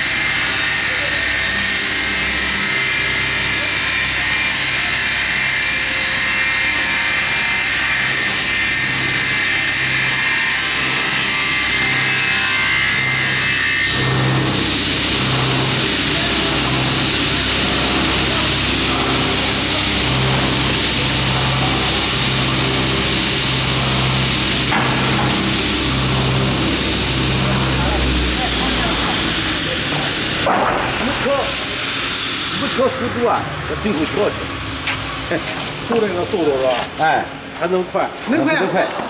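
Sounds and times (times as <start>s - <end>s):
circular saw ripping timber: 0.0s - 37.0s.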